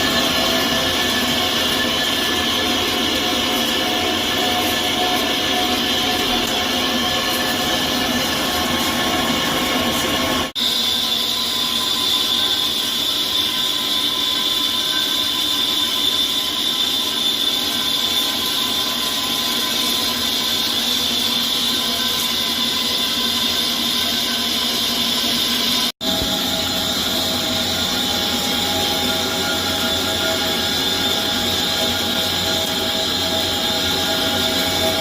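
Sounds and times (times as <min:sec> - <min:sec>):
lathe machining with high whine: 0:00.0 - 0:35.0.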